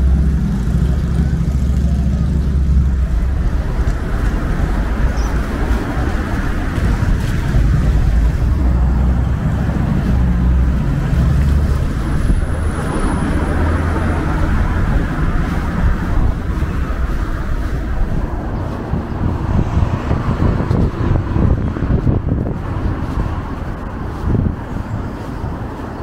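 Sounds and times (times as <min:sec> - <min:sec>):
traffic rumble: 0:00.0 - 0:26.0
wind on microphone: 0:00.0 - 0:26.0.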